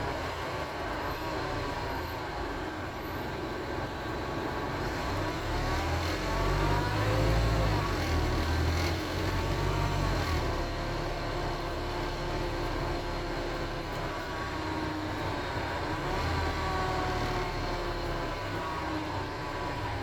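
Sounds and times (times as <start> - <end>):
diesel bus engine rumble: 0.0 - 20.0.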